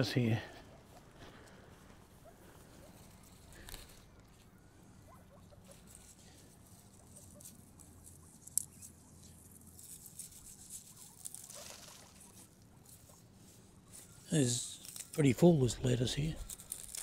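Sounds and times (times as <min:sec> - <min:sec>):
guinea pigs pattering and rustling: 0:00.0 - 0:17.0.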